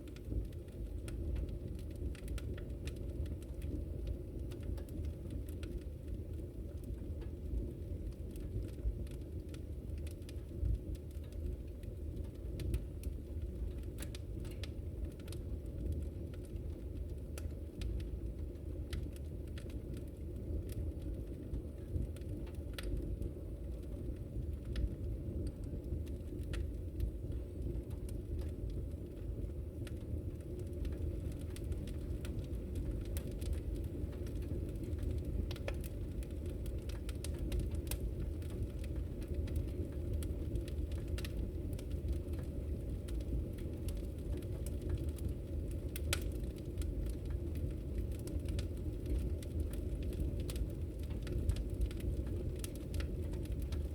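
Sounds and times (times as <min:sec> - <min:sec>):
low rumble of flames: 0:00.0 - 0:53.9
wood fire crackling and popping: 0:00.0 - 0:53.9.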